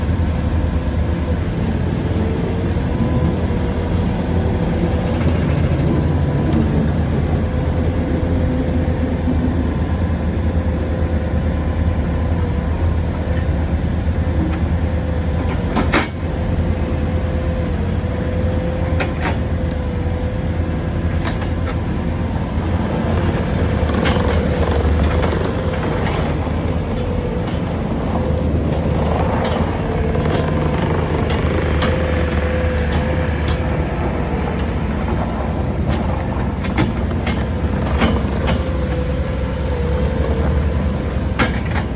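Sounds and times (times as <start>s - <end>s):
constant whine: 0.0s - 41.9s
diesel engine running: 0.0s - 41.9s.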